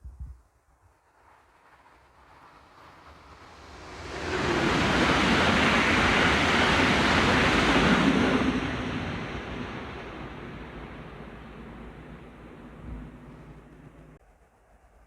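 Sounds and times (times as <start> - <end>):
train passing at speed: 1.0 - 15.0.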